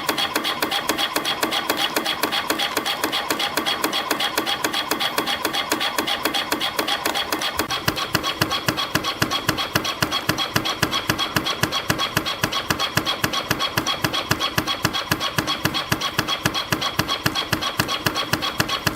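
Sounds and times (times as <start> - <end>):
spring coiling machine: 0.0 - 18.9.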